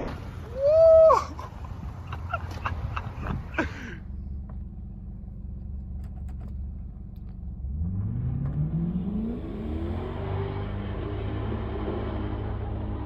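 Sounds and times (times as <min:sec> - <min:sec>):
car engine idling and revving: 0:01.4 - 0:13.0.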